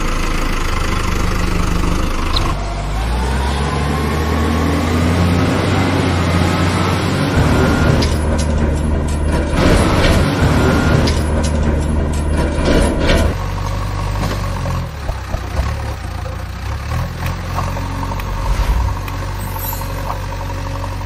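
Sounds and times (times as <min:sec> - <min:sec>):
heavy engine idling: 0:00.0 - 0:03.4, 0:07.2 - 0:21.0.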